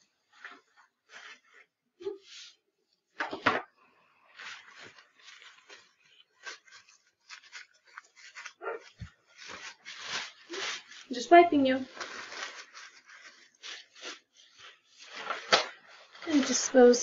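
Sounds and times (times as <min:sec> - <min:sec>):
paper and plastic crinkling: 0:00.2 - 0:01.8, 0:03.2 - 0:17.0.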